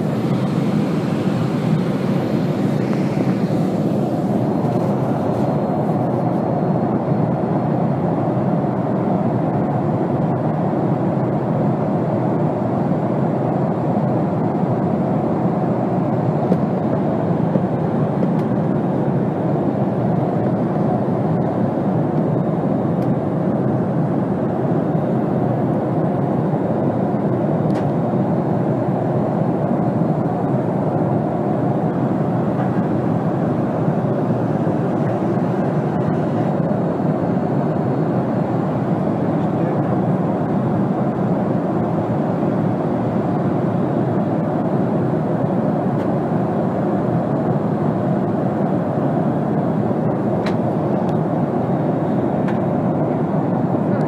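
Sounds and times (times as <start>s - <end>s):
jet airliner cabin rumble: 0.0s - 54.0s.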